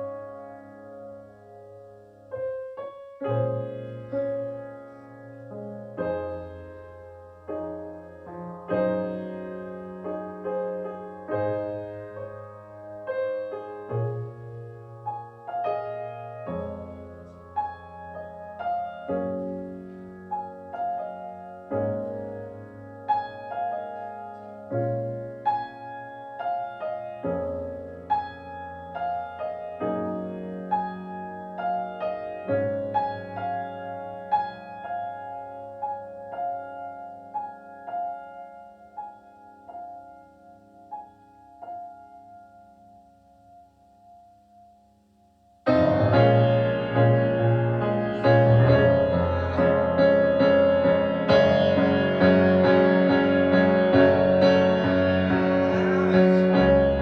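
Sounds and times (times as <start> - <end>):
slow piano chords: 0.0 - 57.0.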